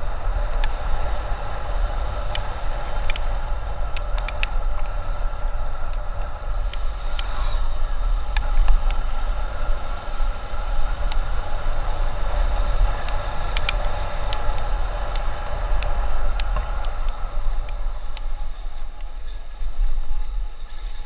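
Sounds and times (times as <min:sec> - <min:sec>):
motorcycle engine and tyres humming: 0:00.0 - 0:21.0
wind rumbling on microphone: 0:00.0 - 0:21.0.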